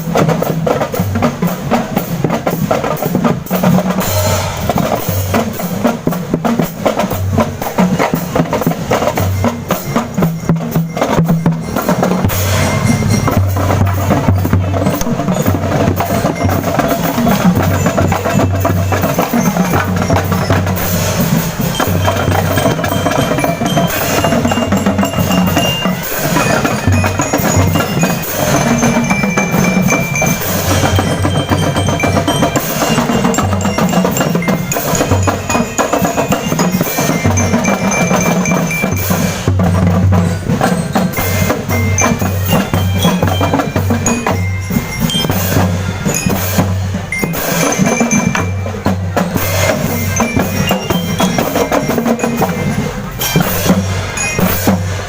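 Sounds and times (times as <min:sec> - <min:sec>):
snare drum and percussion: 0:00.0 - 0:55.0
bell lyre ringing notes: 0:09.0 - 0:55.0.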